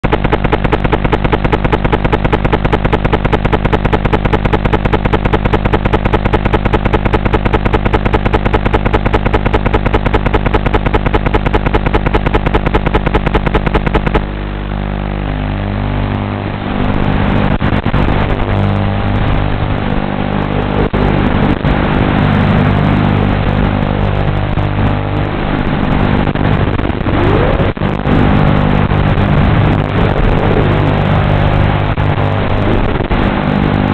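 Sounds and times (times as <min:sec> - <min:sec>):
loud pulsing buzz: 0:00.0 - 0:33.9.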